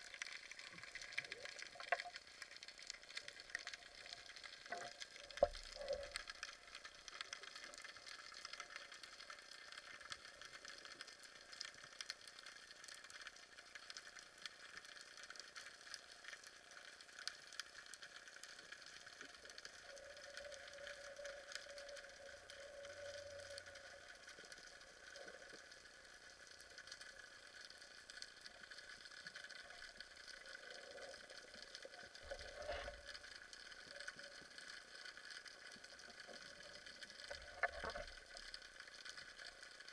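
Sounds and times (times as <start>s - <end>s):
fine crackling ticks: 0.0s - 39.9s
quiet underwater hum: 0.0s - 39.9s.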